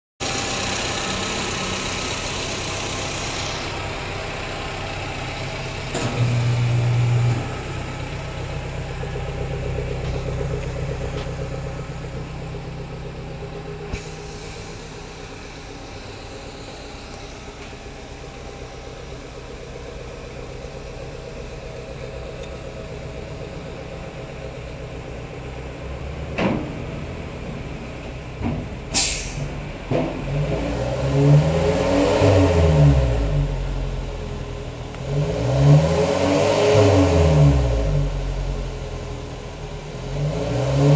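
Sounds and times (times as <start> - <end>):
van engine idling: 0.2 - 30.7, 32.3 - 35.3, 37.0 - 40.3.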